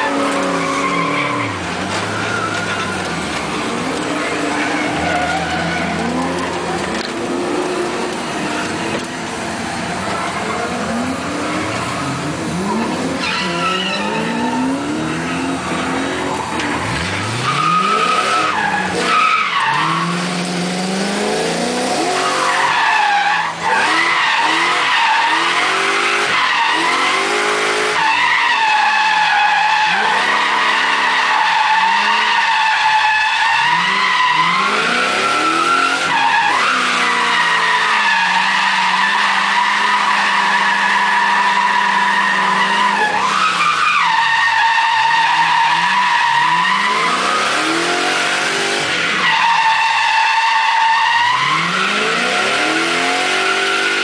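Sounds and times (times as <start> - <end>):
tyres squealing: 0.0 - 20.6, 22.0 - 54.0
car engine revving: 0.0 - 54.0.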